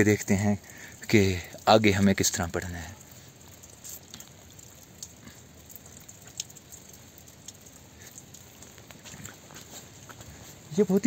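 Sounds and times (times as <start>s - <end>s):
steady rainfall hiss: 0.0s - 11.0s.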